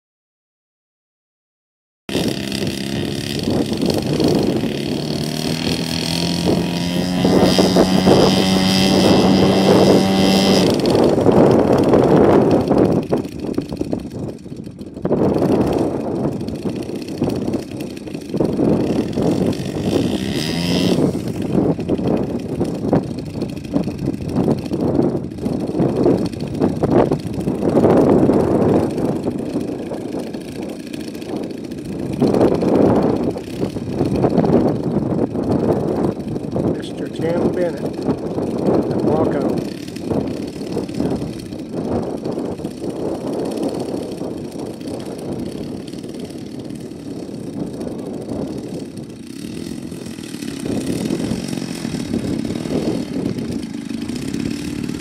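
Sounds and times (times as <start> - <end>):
model airplane engine running: 2.1 - 55.0.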